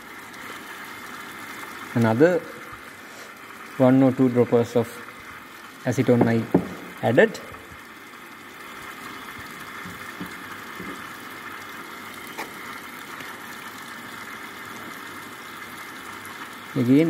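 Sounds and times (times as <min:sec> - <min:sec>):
pump hissing and humming: 0:00.0 - 0:17.0.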